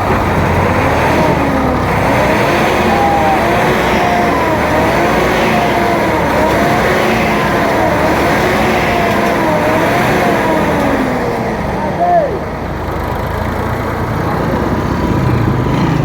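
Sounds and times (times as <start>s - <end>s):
large truck engine drone: 0.0s - 16.0s.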